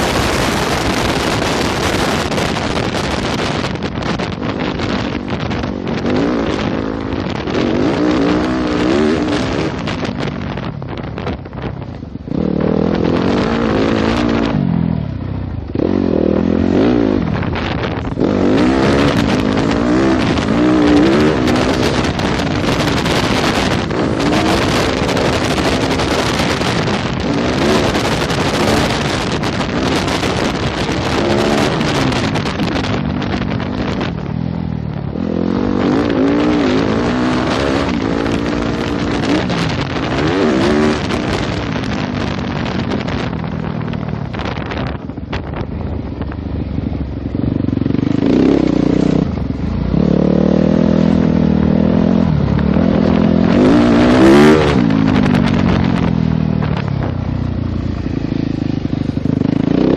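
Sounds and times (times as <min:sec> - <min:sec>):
motorcycle engine revving: 0:00.0 - 0:59.9
wind noise on microphone: 0:00.0 - 0:59.9.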